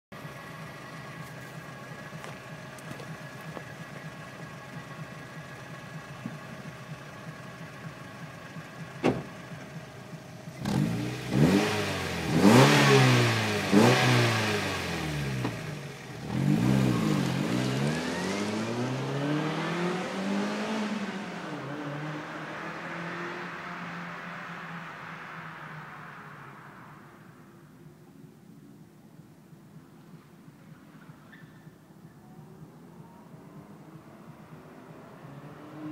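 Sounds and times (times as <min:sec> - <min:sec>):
car engine idling and revving: 0:00.1 - 0:35.9.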